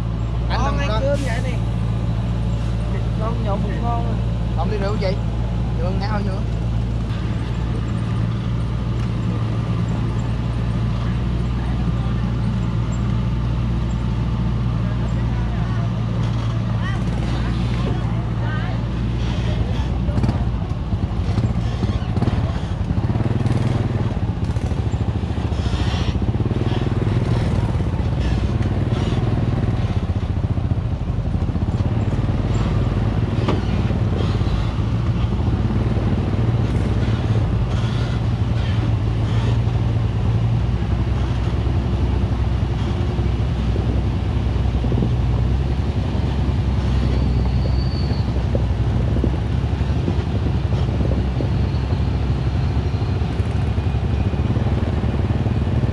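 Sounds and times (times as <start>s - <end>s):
following vehicle engine: 0.0s - 55.9s
truck engine climbing: 0.0s - 55.9s.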